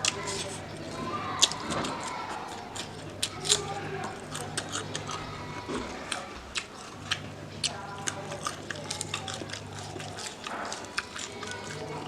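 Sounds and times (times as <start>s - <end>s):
mouth clicks and crunches: 0.0s - 12.0s
person chewing food: 0.0s - 12.0s.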